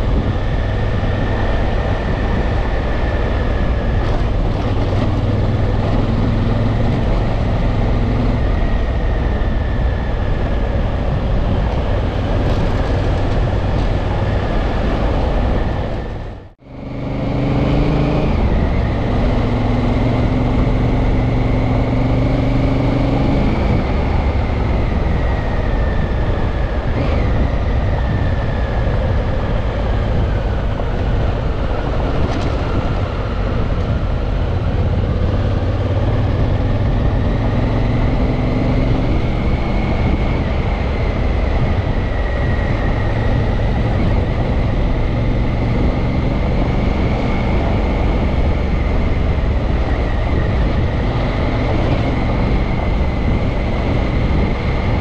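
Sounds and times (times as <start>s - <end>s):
wind noise: 0.0s - 55.0s.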